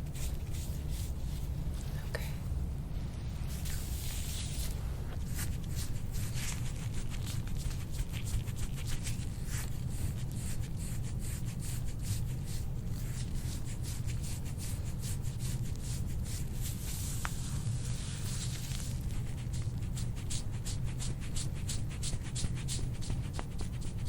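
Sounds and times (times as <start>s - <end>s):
massage strokes rubbing skin: 0.0s - 1.8s, 3.4s - 24.0s
steady low hum: 0.0s - 24.0s.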